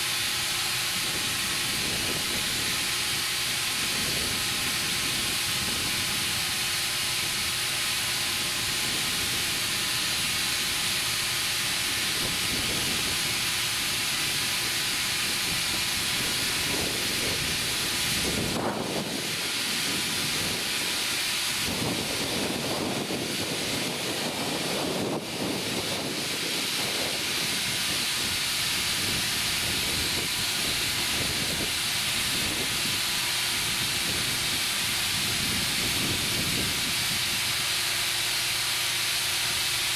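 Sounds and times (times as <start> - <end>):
compressed air hissing into tube: 0.0 - 39.9.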